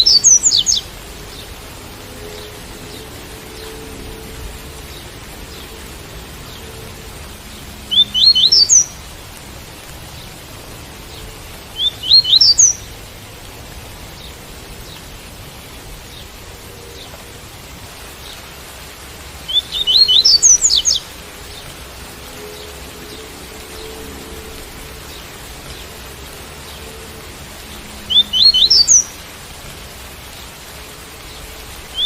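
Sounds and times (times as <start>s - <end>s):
rain hiss: 0.0s - 32.0s.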